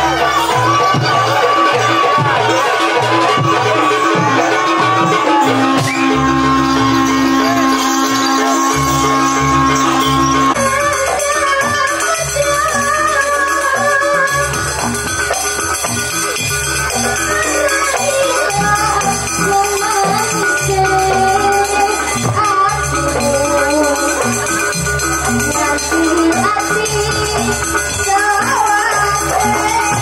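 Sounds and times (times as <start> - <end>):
jingling rattle percussion: 0.0 - 30.0
wavering melody over low tones: 3.3 - 29.8.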